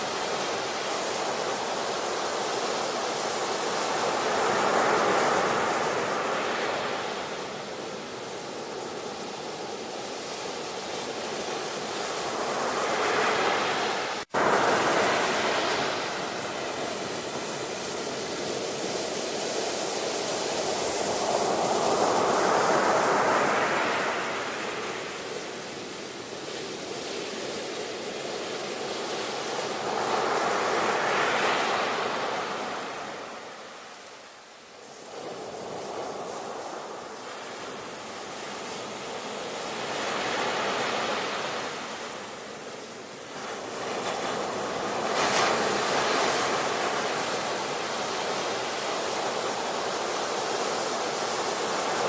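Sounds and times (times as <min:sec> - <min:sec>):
ocean waves breaking: 0:00.0 - 0:34.1, 0:34.8 - 0:52.0.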